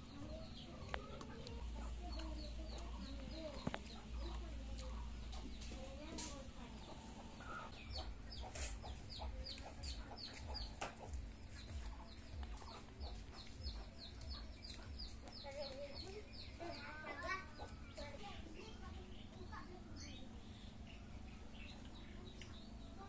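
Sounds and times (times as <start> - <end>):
chickens clucking: 0.0 - 19.4.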